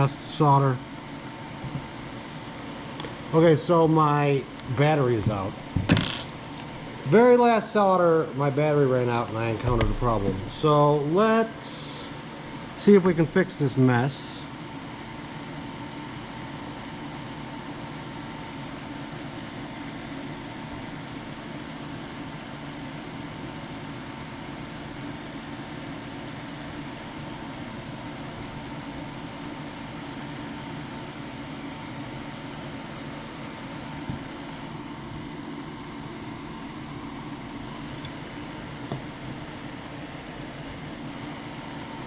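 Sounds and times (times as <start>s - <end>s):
steady mechanical hum: 0.0s - 42.0s.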